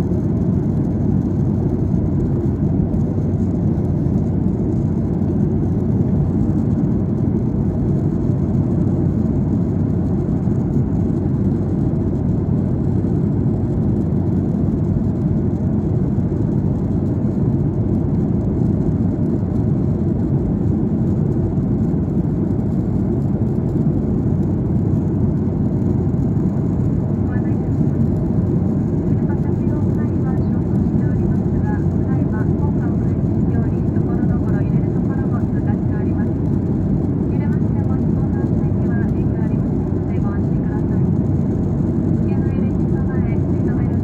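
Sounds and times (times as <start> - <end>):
airplane cabin rumble: 0.0 - 44.0.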